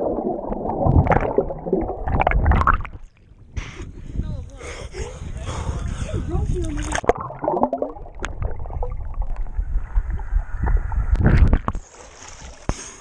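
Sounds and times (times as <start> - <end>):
underwater bubbling: 0.0 - 3.6, 5.2 - 12.7
muffled underwater churning rumble: 0.0 - 4.2, 5.1 - 11.8.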